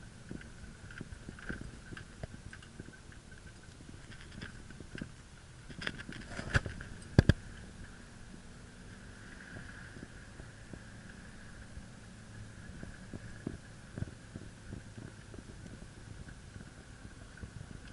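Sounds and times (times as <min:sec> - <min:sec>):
small clicks and rattles: 0:00.0 - 0:08.0, 0:09.2 - 0:17.9
car tyre and engine noise: 0:00.0 - 0:17.9.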